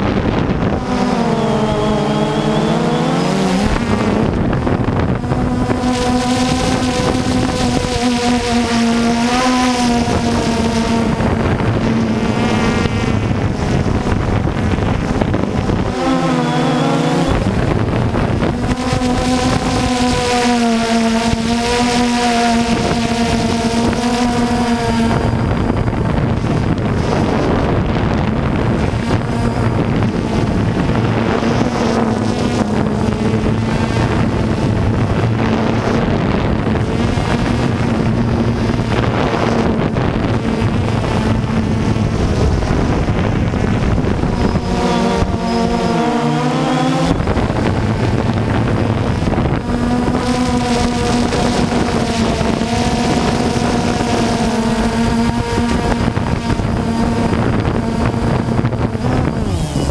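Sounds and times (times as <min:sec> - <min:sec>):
drone propellers buzzing: 0:00.0 - 0:59.9
wind on microphone: 0:00.0 - 0:59.9.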